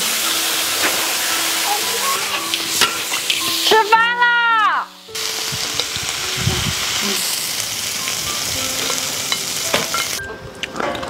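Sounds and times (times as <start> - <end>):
food sizzling in a pan: 0.0 - 10.2.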